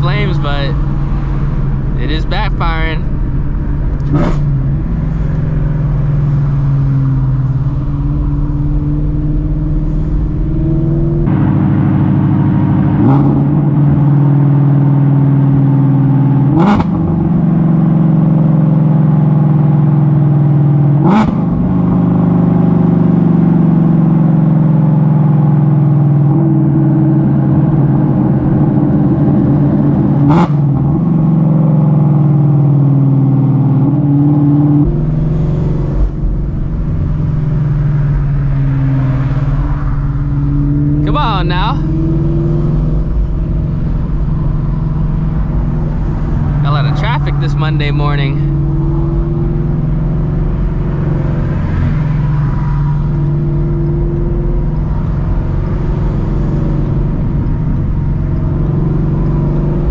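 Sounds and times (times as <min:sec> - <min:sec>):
loud car engine exhaust: 0:00.0 - 0:59.9.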